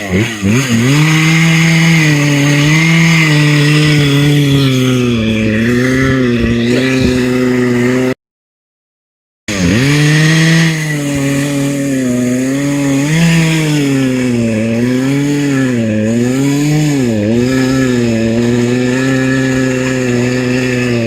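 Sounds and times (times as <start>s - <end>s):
chainsaw cutting wood: 0.0s - 8.2s, 9.5s - 21.0s.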